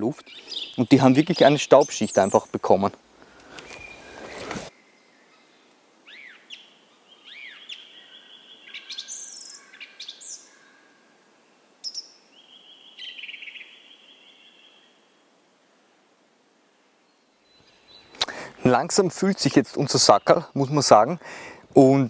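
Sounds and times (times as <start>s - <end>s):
songbirds singing and calling: 0.0s - 10.9s, 11.6s - 15.1s, 17.0s - 22.0s.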